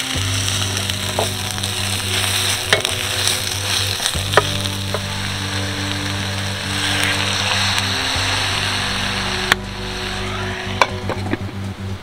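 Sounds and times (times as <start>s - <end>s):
food sizzling in a frying pan: 0.0s - 11.4s.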